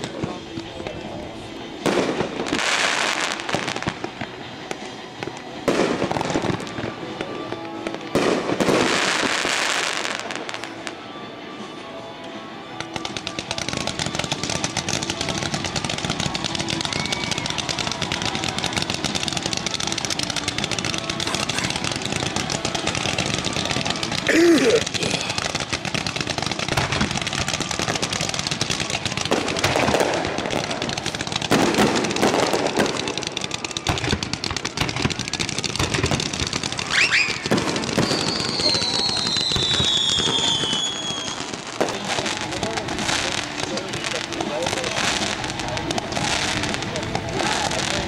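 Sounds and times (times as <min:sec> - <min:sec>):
fireworks crackling and banging: 0:00.0 - 0:48.0.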